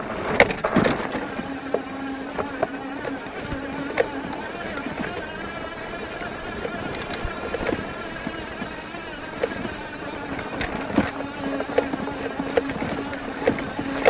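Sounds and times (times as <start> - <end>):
bike frame clicks and knocks: 0.0 - 5.5, 6.2 - 14.0
electric motor whining: 0.0 - 14.0.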